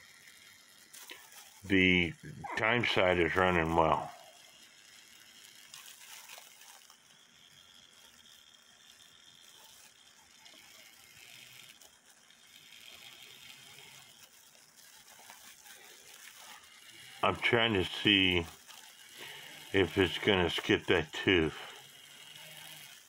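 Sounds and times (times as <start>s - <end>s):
low hiss: 0.0s - 23.0s
plastic gloves crinkling: 0.1s - 23.0s.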